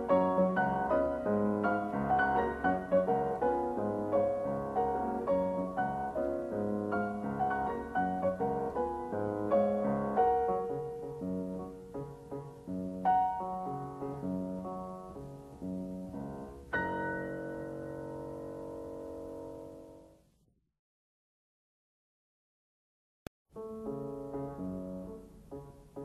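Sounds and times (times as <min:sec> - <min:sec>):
piano music: 0:00.0 - 0:20.2, 0:23.5 - 0:26.0.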